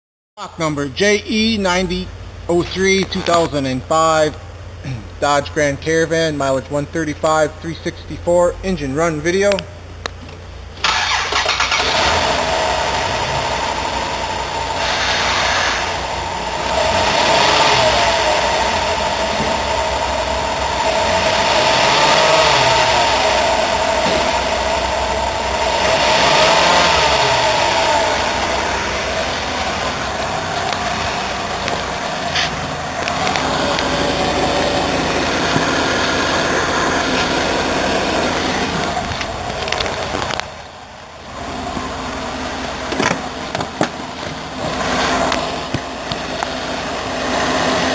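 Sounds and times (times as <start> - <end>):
car engine idling and revving: 0.9 - 47.9.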